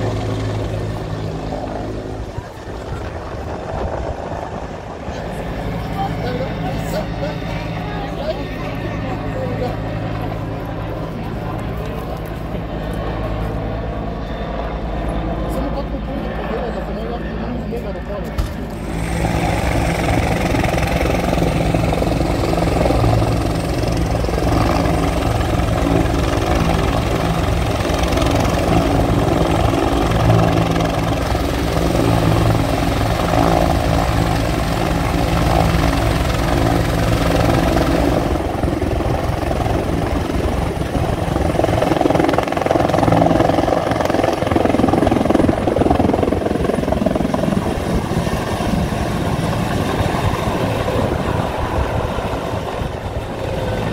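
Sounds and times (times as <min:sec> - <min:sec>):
helicopter rotor and turbine: 0:00.0 - 0:53.9.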